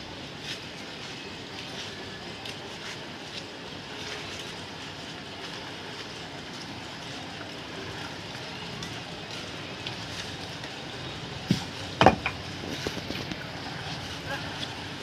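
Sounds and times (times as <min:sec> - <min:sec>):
ticks of raindrops: 0:00.2 - 0:15.0.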